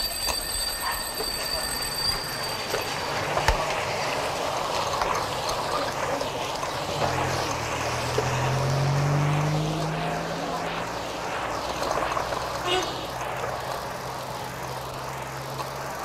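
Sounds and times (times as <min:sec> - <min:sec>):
street traffic noise: 0:00.0 - 0:16.0
vehicle engine rising in pitch: 0:02.8 - 0:16.0.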